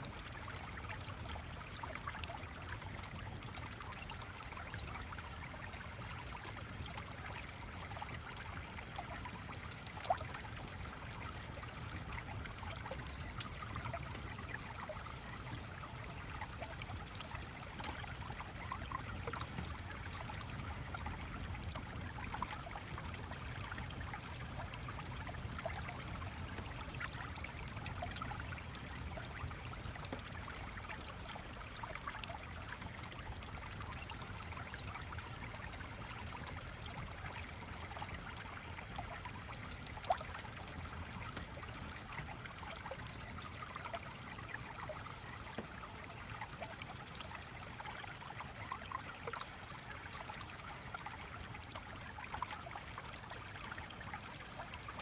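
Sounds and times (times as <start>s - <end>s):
small stream trickling: 0.0s - 55.0s.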